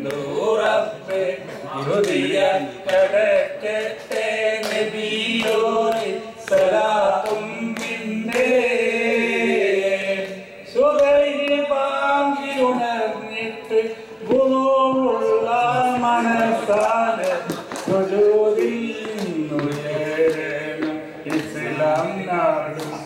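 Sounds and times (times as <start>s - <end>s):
two men singing unaccompanied: 0.0s - 23.0s.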